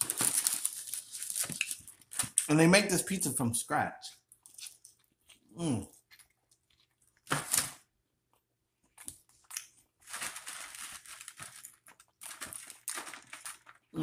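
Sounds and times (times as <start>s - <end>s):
snack crinkling and crunching: 0.0s - 2.5s, 4.2s - 14.0s.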